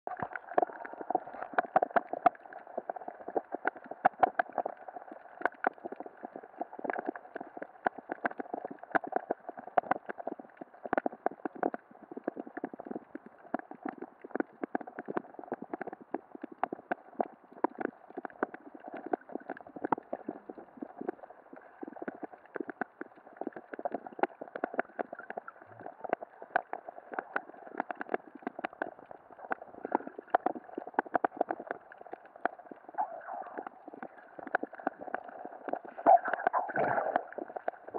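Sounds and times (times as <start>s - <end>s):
underwater clicks and taps: 0.1s - 37.9s
underwater hum: 0.1s - 37.9s.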